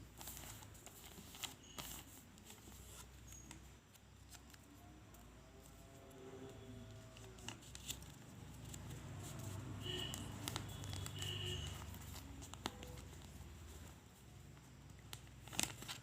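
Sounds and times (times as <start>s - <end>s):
paper crinkling and folding: 0.0s - 16.0s.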